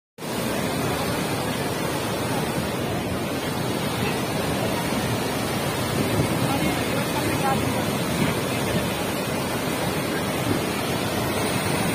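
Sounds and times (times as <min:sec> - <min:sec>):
water rushing through spillway: 0:00.2 - 0:11.9.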